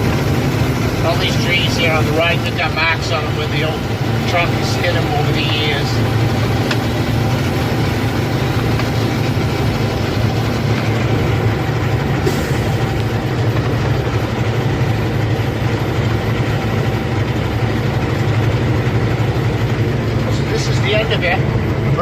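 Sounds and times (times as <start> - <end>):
road and mechanical noise: 0.0 - 22.0
truck engine humming: 0.0 - 22.0.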